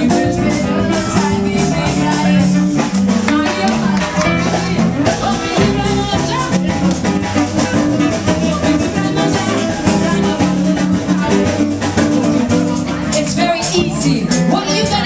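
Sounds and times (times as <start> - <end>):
bass guitar: 0.0 - 15.0
live band playing dance music: 0.0 - 15.0
steady drum beat: 0.0 - 15.0.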